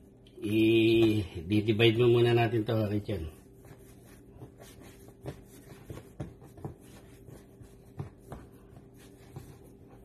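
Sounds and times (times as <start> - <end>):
hands kneading bread dough: 0.0 - 10.0
steady low hum: 0.0 - 10.0.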